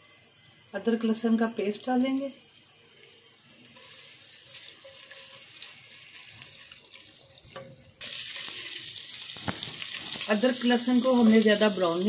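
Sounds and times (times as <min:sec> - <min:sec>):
paste sizzling in hot oil: 0:01.6 - 0:12.0.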